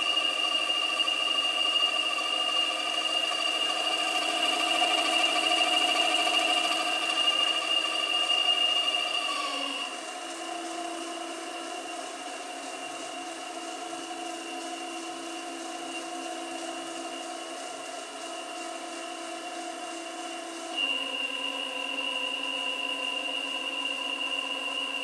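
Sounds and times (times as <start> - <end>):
hydraulic pump whine: 0.0 - 25.0.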